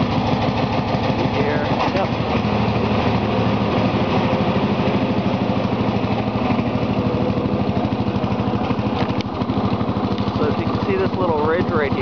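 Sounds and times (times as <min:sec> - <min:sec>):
lawn tractor engine idling: 0:00.0 - 0:12.0.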